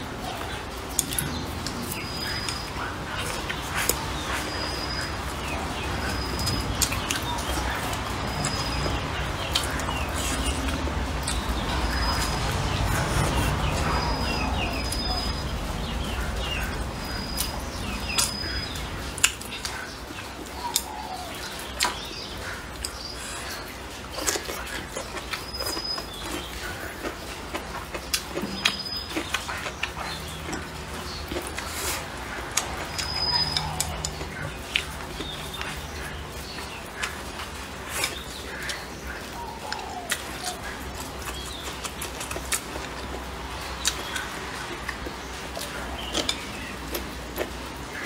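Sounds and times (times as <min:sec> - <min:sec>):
chewing and wet mouth smacks: 0:00.4 - 0:15.4, 0:20.4 - 0:38.9, 0:39.7 - 0:47.6.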